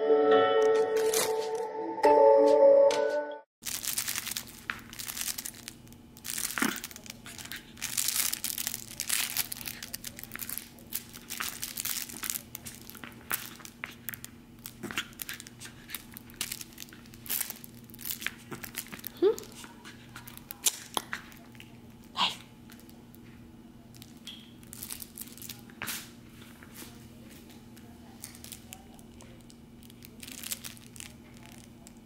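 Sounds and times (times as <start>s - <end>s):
crinkling and rustling: 3.6s - 22.1s, 22.7s - 32.0s.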